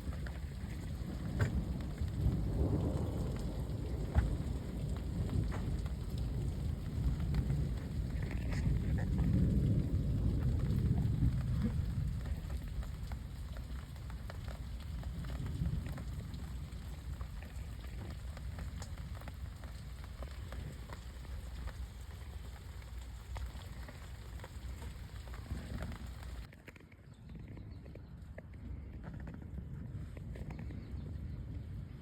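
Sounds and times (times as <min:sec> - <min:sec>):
heavy low rumble: 0:00.0 - 0:26.5
rain drops ticking on a surface: 0:00.0 - 0:32.0.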